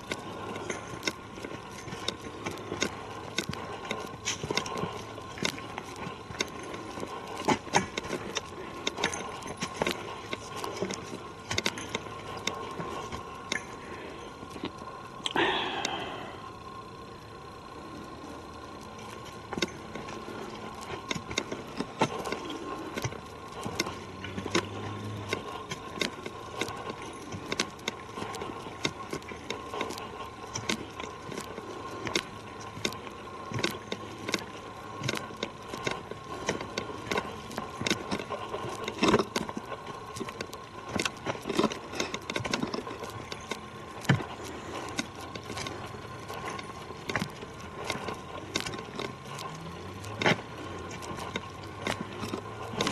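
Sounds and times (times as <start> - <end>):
gear rattling: 0.0 - 52.9.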